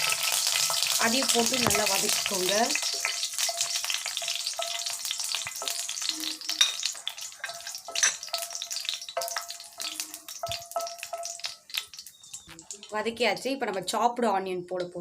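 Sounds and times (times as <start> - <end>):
spatula scraping a pan: 0.0 - 12.9
spices sizzling in oil: 0.0 - 14.1.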